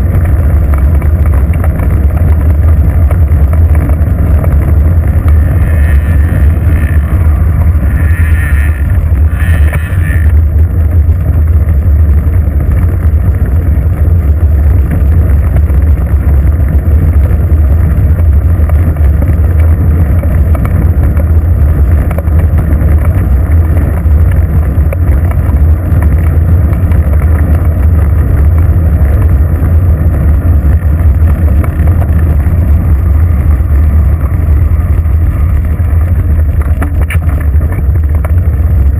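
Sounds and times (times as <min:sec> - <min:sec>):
wind and road rumble: 0:00.0 - 0:38.9.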